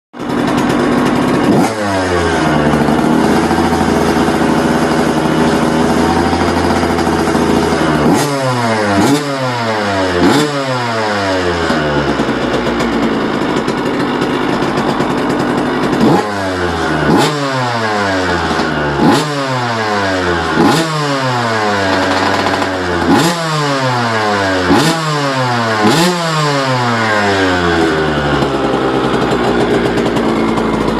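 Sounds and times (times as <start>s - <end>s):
two-stroke engine idling and revving: 0.2s - 30.9s.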